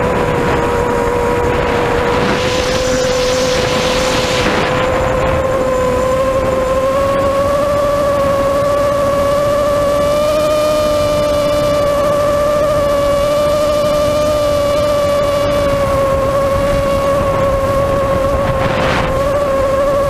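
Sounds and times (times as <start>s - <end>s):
electric propeller droning: 0.0s - 20.0s
wind noise: 0.0s - 20.0s.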